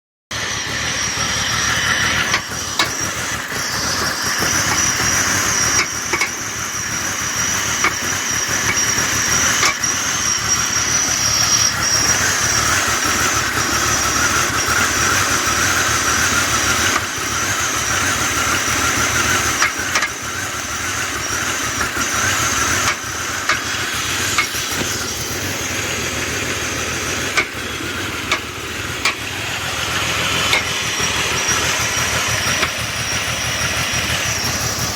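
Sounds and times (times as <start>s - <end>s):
high whine: 0.3s - 17.8s, 18.6s - 34.9s
car engine running: 0.3s - 34.9s
engine knocking: 0.3s - 34.9s.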